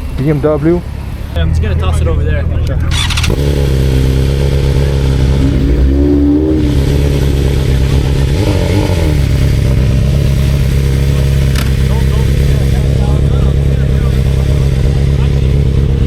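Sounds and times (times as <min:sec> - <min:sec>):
motorcycle engine running: 0:02.1 - 0:16.0.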